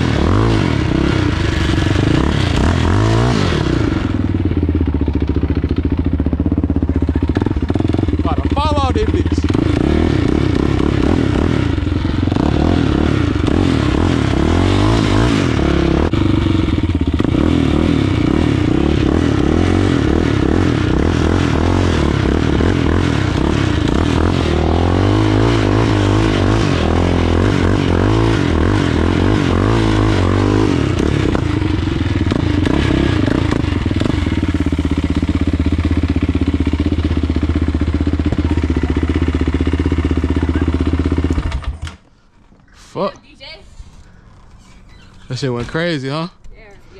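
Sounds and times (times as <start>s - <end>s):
quad bike engine revving: 0.0s - 42.0s.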